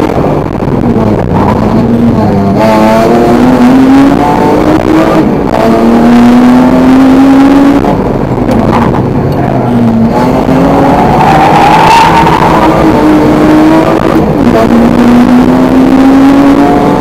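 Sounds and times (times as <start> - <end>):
car engine revving: 0.0 - 17.0
road and wind noise: 0.0 - 17.0.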